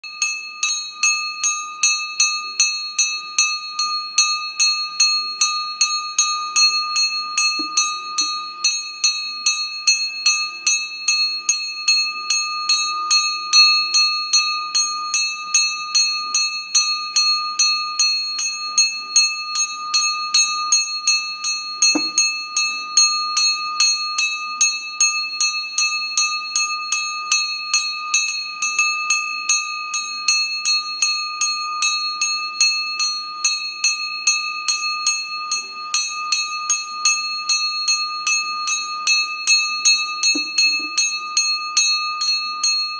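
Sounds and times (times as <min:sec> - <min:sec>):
hand bell ringing: 0:00.0 - 0:42.9.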